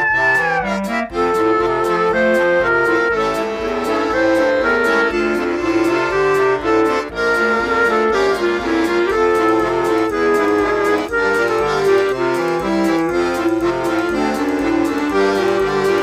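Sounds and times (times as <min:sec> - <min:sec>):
accordion melody: 0:00.0 - 0:16.0
steady beat: 0:00.0 - 0:16.0.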